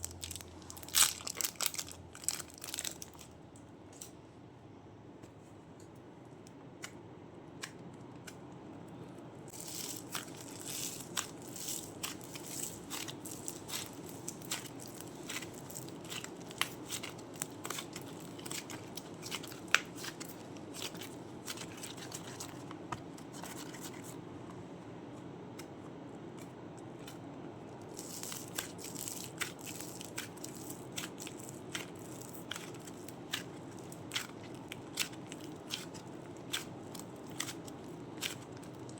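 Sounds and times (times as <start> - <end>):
clay crunching and crackling: 5.3 - 24.6, 25.2 - 38.9.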